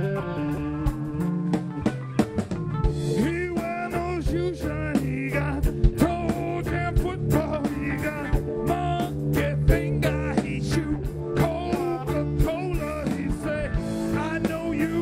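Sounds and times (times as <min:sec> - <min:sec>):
bass: 0:00.0 - 0:15.0
electric guitar: 0:00.0 - 0:15.0
harmonica lead: 0:00.0 - 0:15.0
drum beat: 0:00.8 - 0:15.0.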